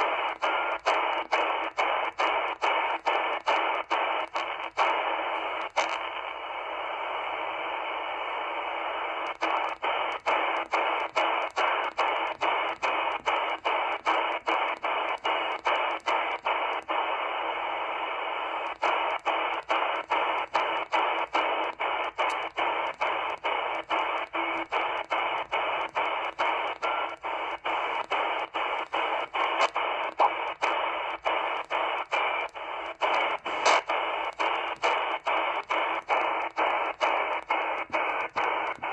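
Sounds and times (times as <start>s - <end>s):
shortwave radio hiss: 0.0s - 38.9s.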